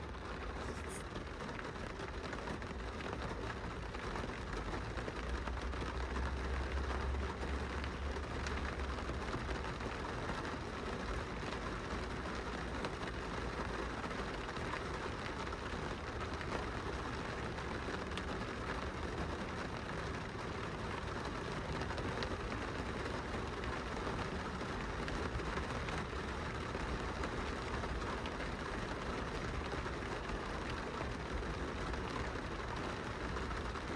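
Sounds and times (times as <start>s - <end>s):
rain on car window: 0.0s - 33.9s.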